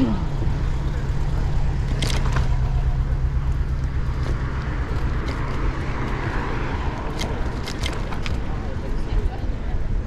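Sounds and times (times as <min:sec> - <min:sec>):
traffic noise: 0:00.0 - 0:10.0.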